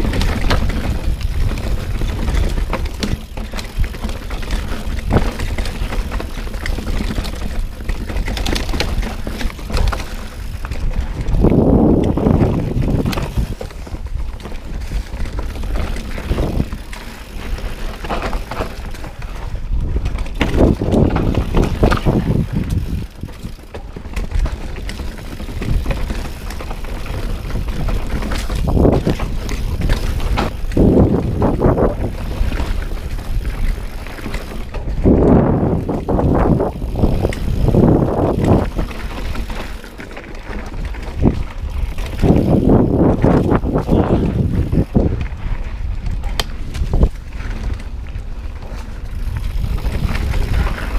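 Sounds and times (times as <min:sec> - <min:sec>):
bike frame rattling: 0:00.0 - 0:50.9
bike tyres rolling on dirt: 0:00.0 - 0:50.9
wind rumble on microphone: 0:00.0 - 0:50.9.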